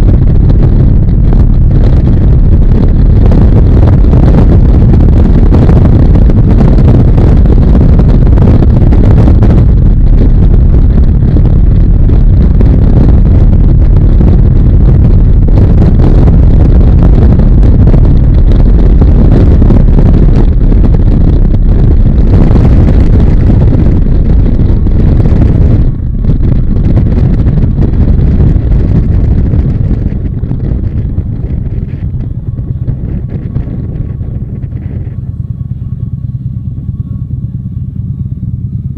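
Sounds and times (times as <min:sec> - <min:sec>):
motorcycle engine: 0:00.0 - 0:38.9
road noise: 0:00.0 - 0:38.9
wind rush on microphone: 0:00.0 - 0:38.9.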